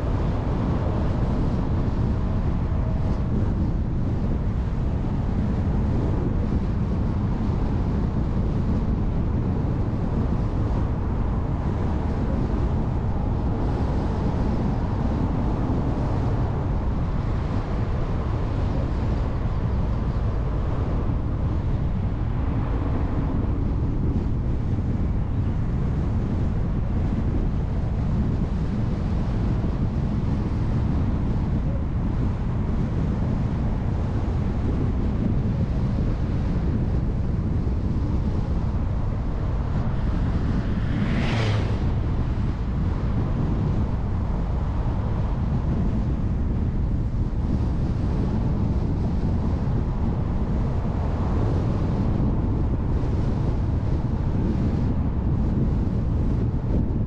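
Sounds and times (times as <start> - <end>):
car road noise: 0.0 - 54.2
wind buffeting microphone: 0.0 - 57.0.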